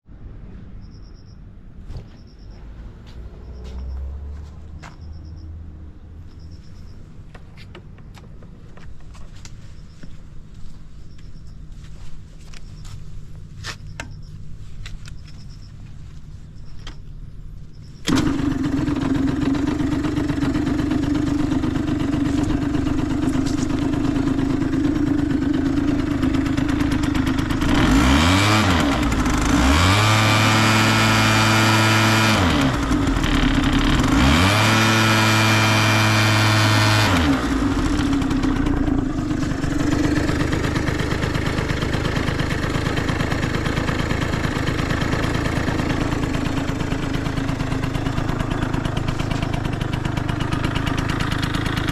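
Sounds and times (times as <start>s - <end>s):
scooter engine idling and revving: 0.1s - 51.9s.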